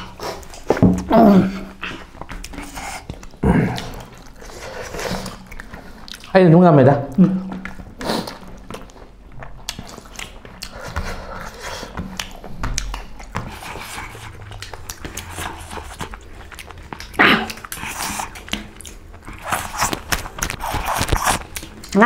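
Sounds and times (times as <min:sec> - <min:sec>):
fingers squishing food: 0:00.0 - 0:22.0
people chewing food: 0:00.0 - 0:22.0.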